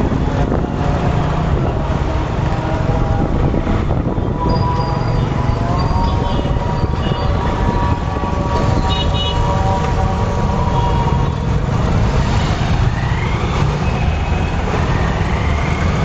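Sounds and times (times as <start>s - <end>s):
motorcycle wind and engine rumble: 0.0s - 16.0s.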